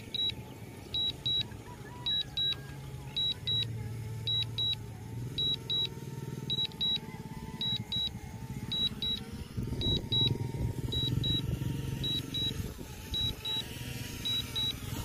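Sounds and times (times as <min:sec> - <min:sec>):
paired high beeps: 0:00.0 - 0:03.7, 0:04.3 - 0:04.8, 0:05.4 - 0:07.0, 0:07.6 - 0:09.2, 0:09.8 - 0:14.8
drone hum: 0:00.0 - 0:15.0.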